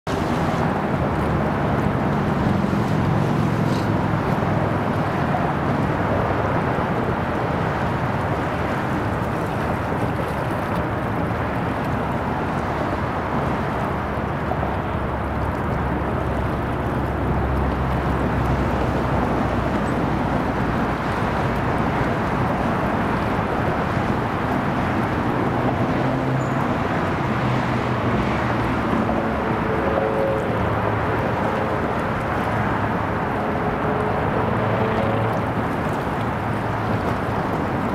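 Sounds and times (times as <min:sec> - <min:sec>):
distant engines rumbling: 0:00.0 - 0:37.9
moving water: 0:00.1 - 0:37.9
wind on microphone: 0:00.1 - 0:37.9.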